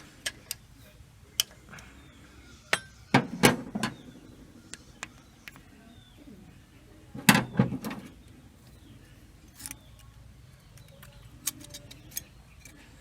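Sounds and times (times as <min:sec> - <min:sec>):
faint birds calling: 0:00.0 - 0:13.0.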